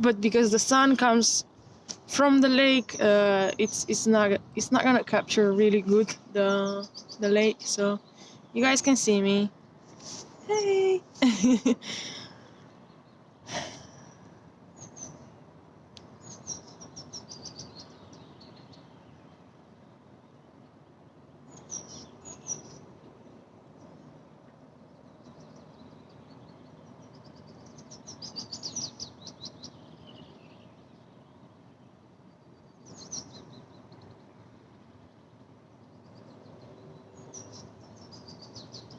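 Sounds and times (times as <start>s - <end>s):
songbird singing: 0.0s - 38.9s
steady outdoor hiss: 0.0s - 38.9s.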